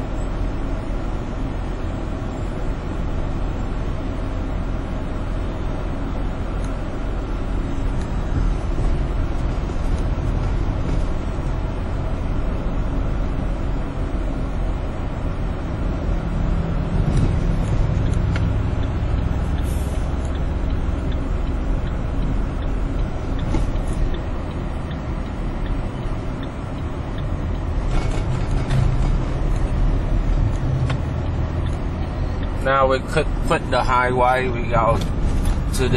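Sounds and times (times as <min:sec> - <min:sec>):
deep engine hum: 0:00.0 - 0:35.9
highway traffic rumble: 0:00.0 - 0:35.9.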